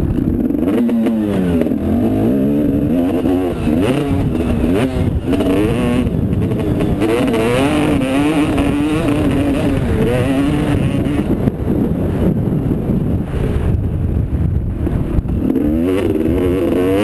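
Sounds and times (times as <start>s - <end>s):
motocross bike engine revving: 0.0s - 13.6s, 14.8s - 17.0s.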